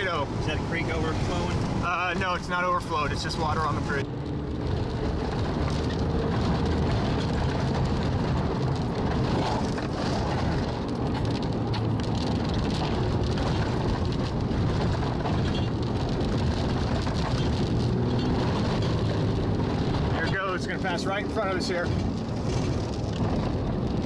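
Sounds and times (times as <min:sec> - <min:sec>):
engine and tyre hum: 0:00.0 - 0:24.0
raindrops ticking on windshield: 0:00.0 - 0:24.0.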